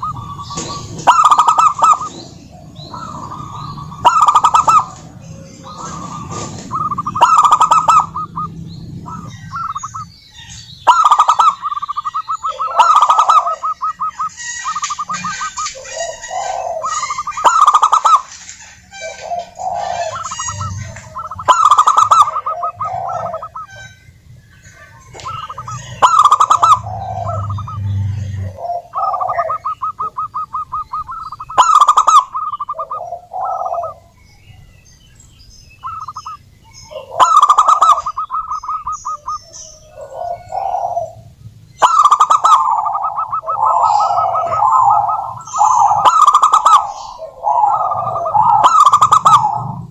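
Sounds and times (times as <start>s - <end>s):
doves cooing: 0.0s - 34.7s, 35.7s - 49.9s.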